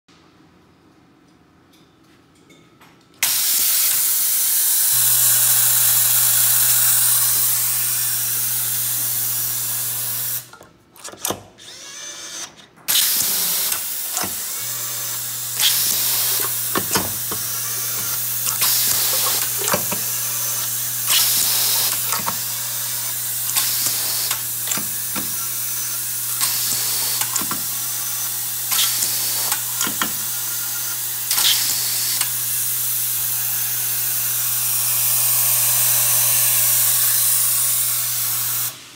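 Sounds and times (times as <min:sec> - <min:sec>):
electric screwdriver bursts with clicks: 0:03.2 - 0:38.8.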